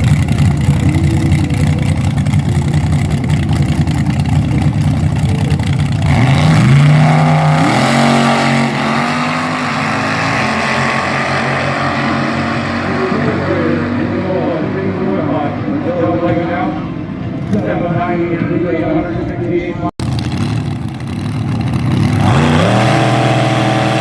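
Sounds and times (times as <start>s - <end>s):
dragster engines revving: 0.0s - 19.4s, 20.0s - 24.0s.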